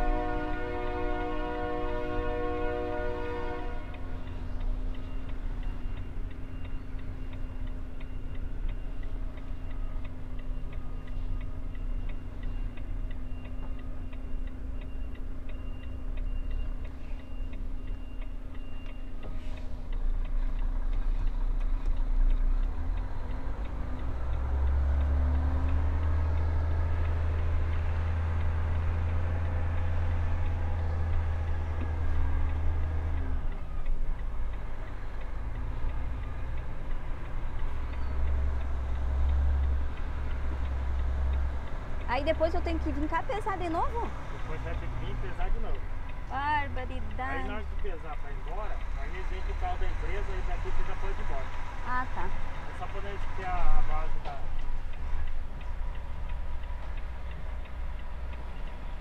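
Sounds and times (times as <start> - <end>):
truck engine running: 0.0 - 59.0
turn signal ticking: 0.0 - 59.0.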